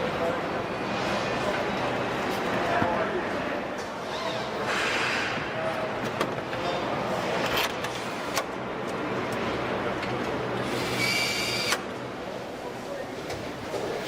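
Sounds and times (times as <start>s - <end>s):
machinery hum: 0.0s - 14.0s.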